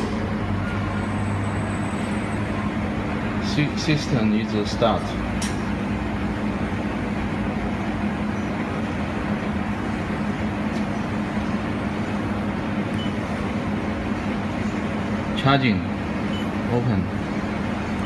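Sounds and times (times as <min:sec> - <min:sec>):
welding machine hum and fan noise: 0:00.0 - 0:18.0.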